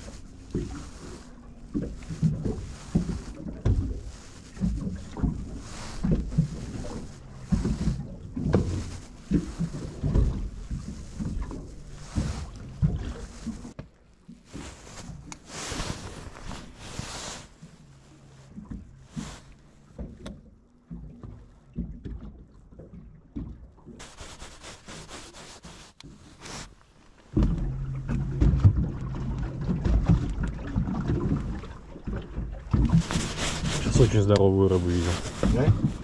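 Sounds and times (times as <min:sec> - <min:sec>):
waves slapping boat hull: 0:00.0 - 0:36.0.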